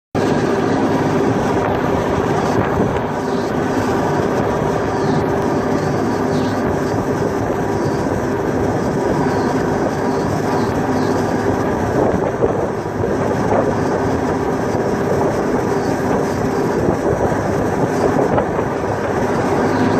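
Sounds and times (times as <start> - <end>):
boat diesel engines droning: 0.2 - 19.9
water wash rushing: 0.2 - 19.9.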